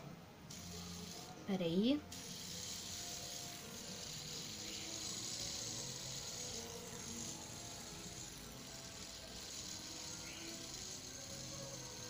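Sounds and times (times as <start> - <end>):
fidget spinner whirring: 0.0 - 12.0.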